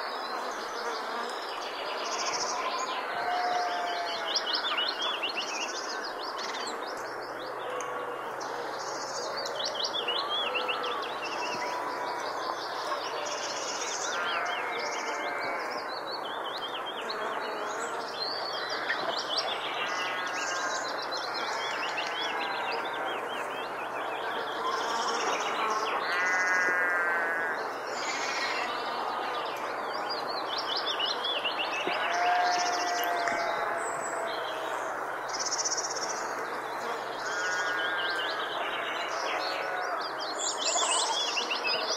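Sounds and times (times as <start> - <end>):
many birds chirping: 0.0 - 41.9.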